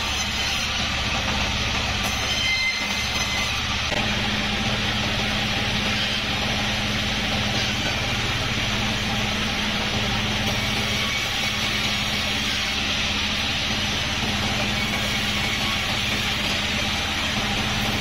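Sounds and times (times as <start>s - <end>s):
band saw droning: 0.0s - 18.0s.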